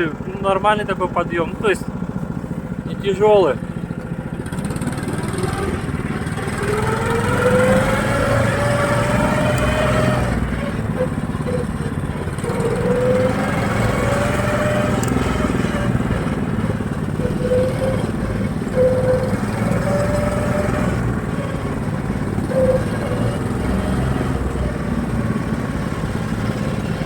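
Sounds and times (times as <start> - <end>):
small engine whining: 0.0 - 27.0.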